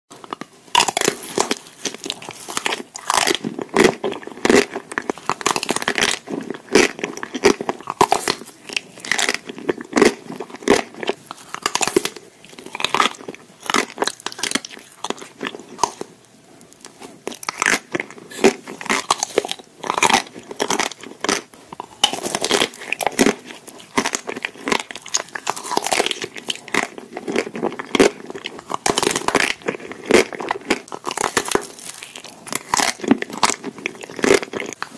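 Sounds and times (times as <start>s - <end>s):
chewing: 0.1s - 34.9s
chocolate shell crunching: 0.1s - 34.9s.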